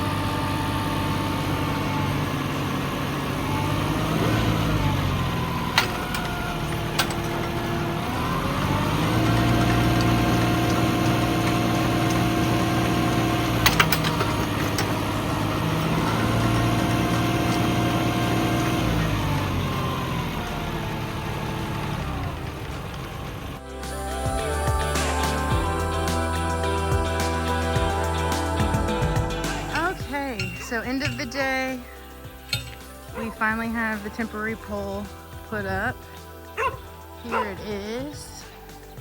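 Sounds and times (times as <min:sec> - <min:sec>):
tractor engine revving: 0:00.0 - 0:39.0.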